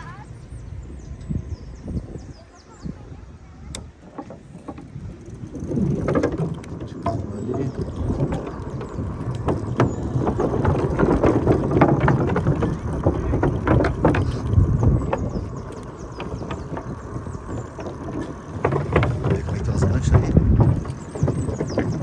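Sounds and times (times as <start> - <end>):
traffic rumble: 0.0 - 22.0
wind on microphone: 0.0 - 22.0
clicks and knocks: 3.7 - 22.0.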